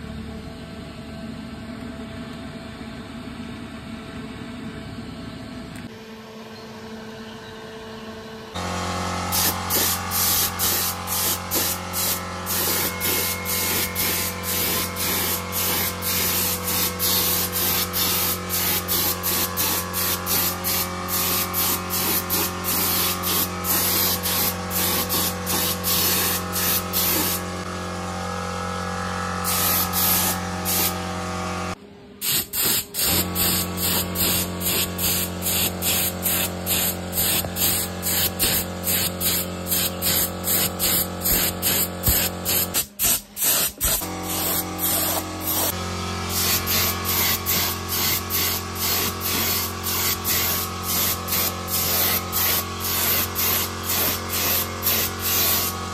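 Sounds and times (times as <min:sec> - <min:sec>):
spray gun hissing bursts: 0:08.7 - 0:27.7, 0:29.4 - 0:31.6, 0:32.2 - 0:55.9.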